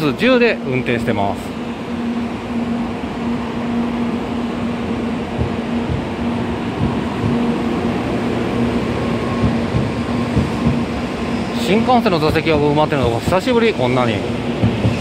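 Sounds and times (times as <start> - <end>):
train cars rumbling past: 0.0 - 15.0.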